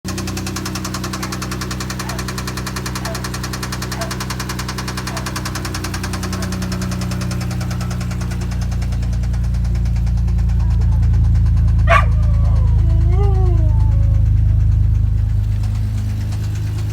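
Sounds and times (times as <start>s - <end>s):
car engine running: 0.1s - 16.9s
fast even engine knocking: 0.1s - 16.9s.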